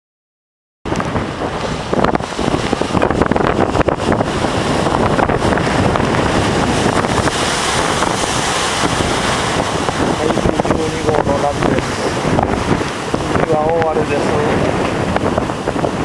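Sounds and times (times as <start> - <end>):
large waves surging: 0.9 - 16.0
strong wind buffeting microphone: 0.9 - 16.0.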